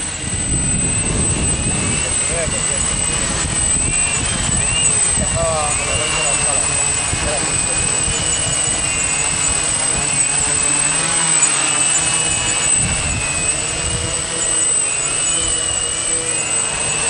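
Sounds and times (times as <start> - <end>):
propeller wash rumbling: 0.0 - 17.0
quadcopter motors whining: 0.0 - 17.0.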